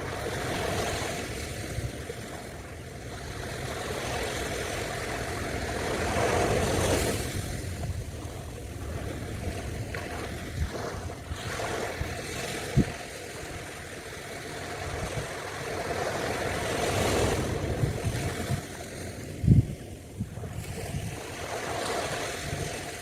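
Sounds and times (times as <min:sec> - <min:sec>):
ocean waves washing onto beach: 0:00.0 - 0:23.0
wind buffeting microphone: 0:03.3 - 0:23.0.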